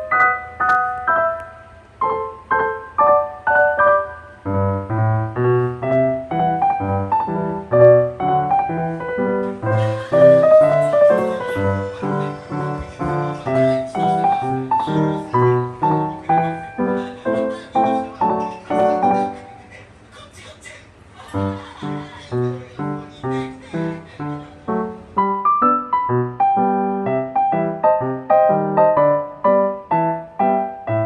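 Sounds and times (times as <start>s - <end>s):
piano melody: 0.0s - 19.7s, 21.4s - 31.0s.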